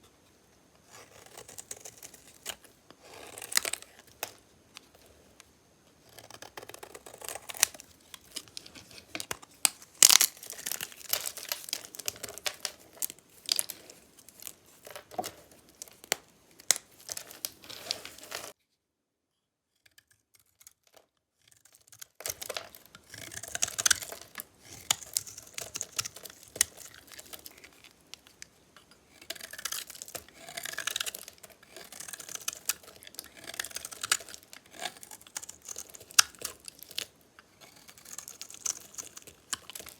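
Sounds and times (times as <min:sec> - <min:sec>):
knife cutting dry bar soap: 0:00.9 - 0:04.4, 0:06.1 - 0:18.6, 0:21.5 - 0:39.9.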